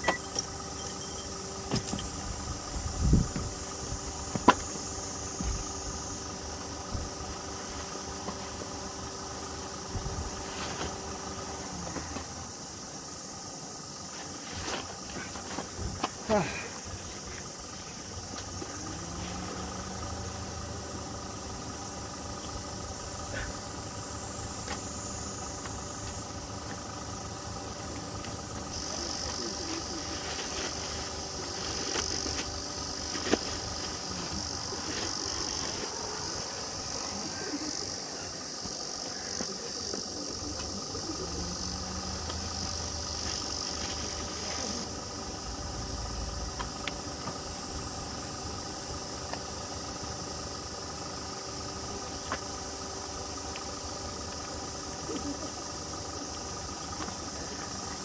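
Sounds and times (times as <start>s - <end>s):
high-pitched insect drone: 0.0s - 58.0s
insects chirring: 0.0s - 58.0s.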